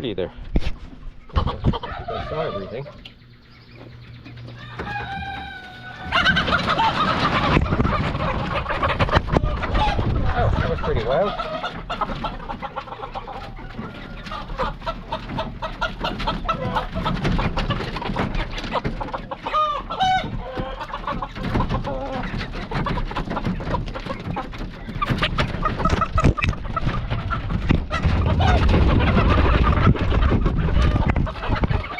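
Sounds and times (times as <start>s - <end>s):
hens clucking and squawking: 0.2s - 31.9s
knocks and rustling: 3.0s - 31.9s.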